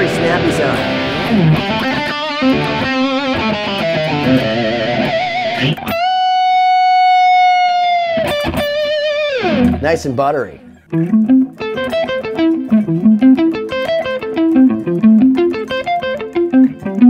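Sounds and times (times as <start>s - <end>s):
electric guitar lead line: 0.0s - 17.0s.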